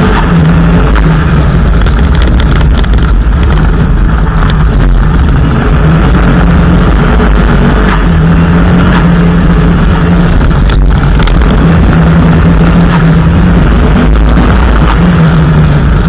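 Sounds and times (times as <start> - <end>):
car engine under load: 0.0 - 16.0
road and wind noise: 0.0 - 16.0.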